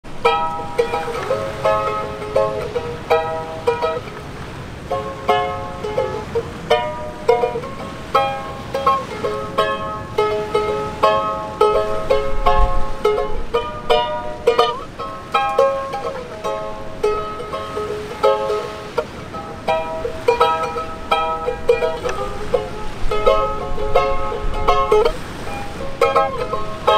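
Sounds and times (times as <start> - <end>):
plucked string instrument melody: 0.0 - 26.9.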